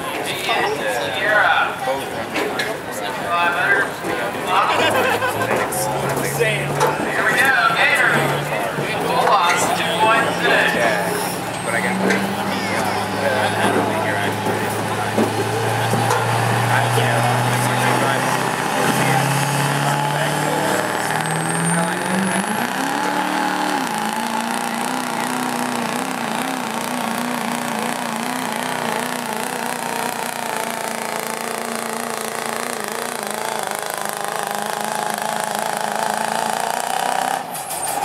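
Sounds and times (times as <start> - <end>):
diesel truck engine at full throttle: 0.0 - 38.0.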